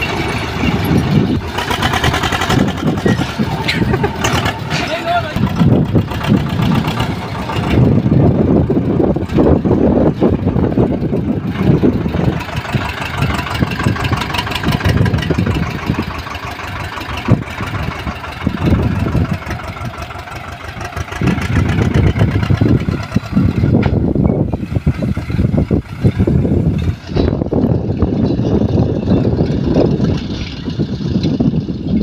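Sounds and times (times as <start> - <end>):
tractor diesel engines running: 0.0 - 32.0
tractor passing close by: 0.0 - 32.0.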